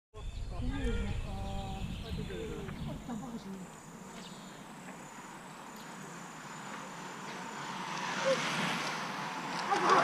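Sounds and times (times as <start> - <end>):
rush of outdoor noise: 0.2 - 10.0.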